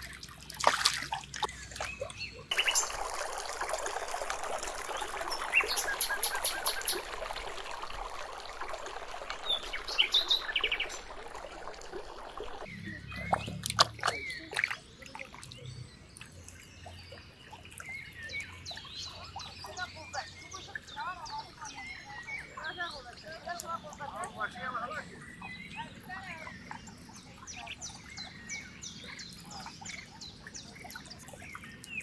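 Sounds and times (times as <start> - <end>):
birds chirping: 0.0 - 3.1, 4.8 - 7.2, 9.4 - 11.4, 12.2 - 32.0
water trickling and splashing: 0.0 - 32.0.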